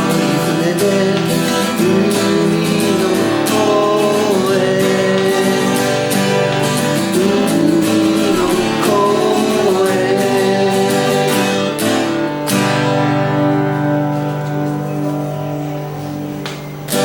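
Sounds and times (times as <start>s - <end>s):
strummed acoustic guitars: 0.0s - 17.0s.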